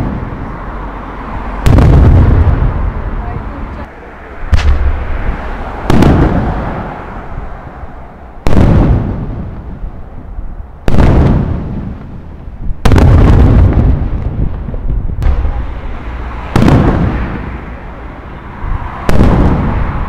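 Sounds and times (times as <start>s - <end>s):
echoing rumble: 0.0s - 20.0s.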